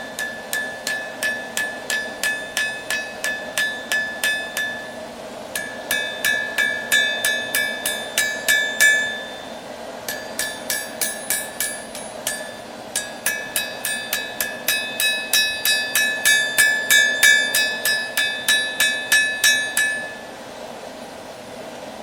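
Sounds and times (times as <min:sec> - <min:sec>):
hammer striking steel on anvil: 0:00.0 - 0:20.3.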